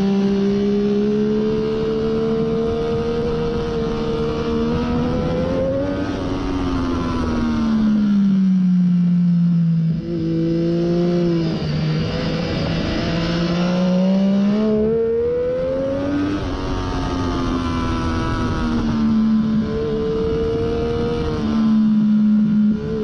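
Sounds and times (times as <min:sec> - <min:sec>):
sport bike engine revving: 0:00.0 - 0:08.0, 0:09.9 - 0:23.0.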